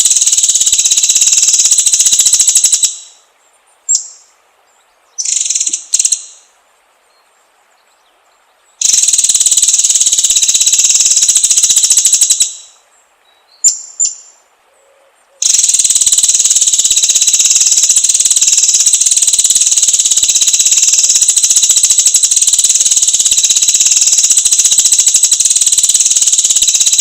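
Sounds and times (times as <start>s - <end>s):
rapid rattling bird trills: 0.0s - 3.3s, 5.2s - 6.5s, 8.8s - 12.8s, 13.6s - 27.0s.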